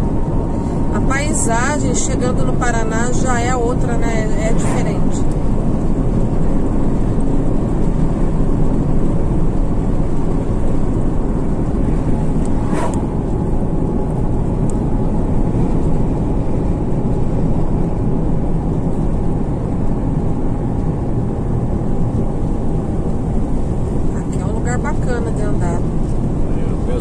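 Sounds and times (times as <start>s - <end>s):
truck road and engine noise: 0.0s - 27.0s.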